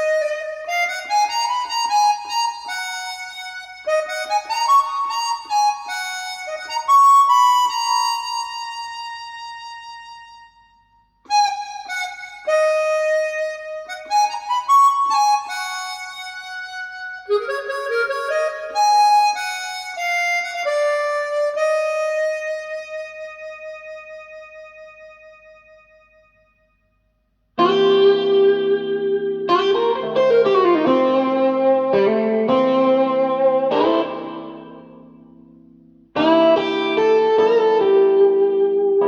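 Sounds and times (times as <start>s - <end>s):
reedy instrumental melody: 0.0s - 26.2s, 27.6s - 39.0s.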